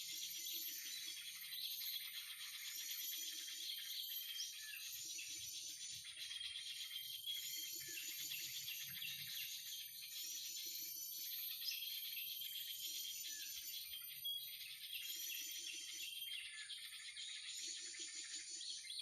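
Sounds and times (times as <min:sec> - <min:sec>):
recorded bird calls: 0:00.0 - 0:19.0.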